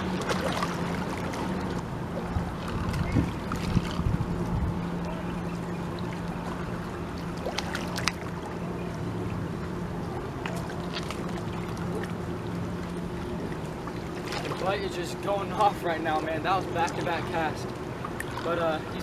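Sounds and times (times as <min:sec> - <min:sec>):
low motor hum: 0:00.0 - 0:19.0
water noise: 0:00.0 - 0:19.0
wind: 0:00.0 - 0:19.0.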